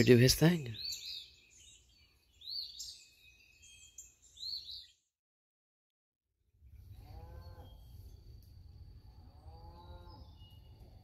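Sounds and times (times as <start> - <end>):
songbirds chirping: 0.0 - 5.2, 6.6 - 11.0.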